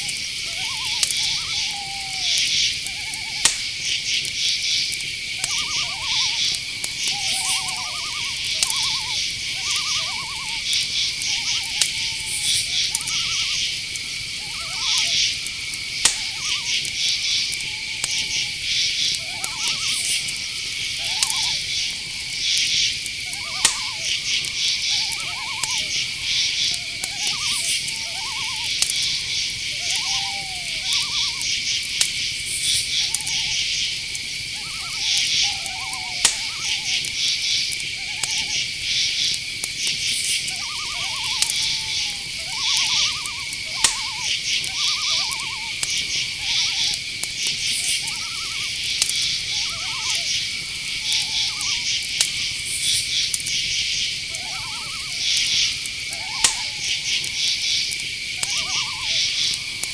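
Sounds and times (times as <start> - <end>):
crickets trilling: 0.0 - 59.9
short arching calls: 0.0 - 59.9
sharp clicks: 2.4 - 54.2.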